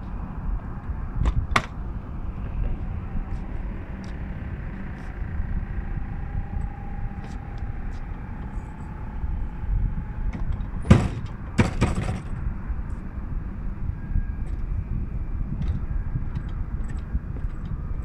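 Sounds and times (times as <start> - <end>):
faint steady whine: 0.0 - 18.0
low rumble: 0.0 - 18.0.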